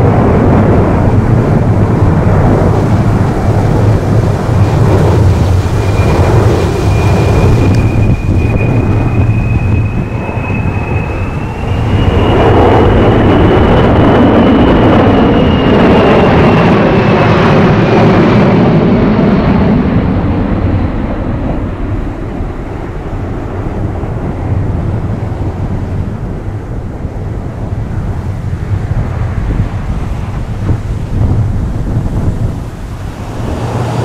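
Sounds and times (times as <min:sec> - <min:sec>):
jet aircraft passing overhead: 0:00.0 - 0:34.0.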